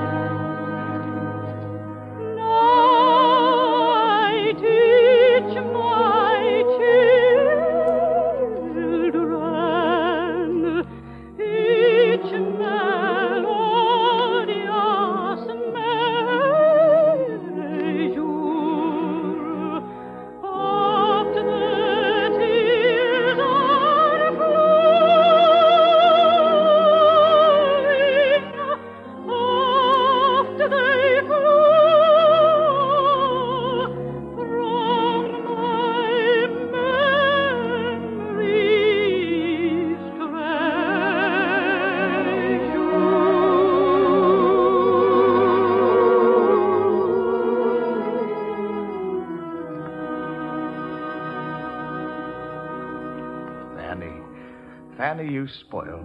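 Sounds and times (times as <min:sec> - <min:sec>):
operatic solo singing with vibrato: 0:00.0 - 0:55.4
orchestral accompaniment: 0:00.0 - 0:56.0.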